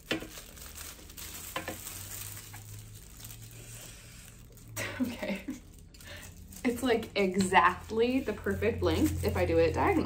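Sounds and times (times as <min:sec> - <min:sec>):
handling plastic-wrapped object: 0:00.0 - 0:10.0.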